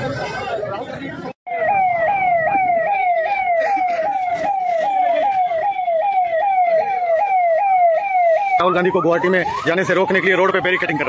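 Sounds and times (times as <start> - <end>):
electronic vehicle siren: 1.5 - 11.0.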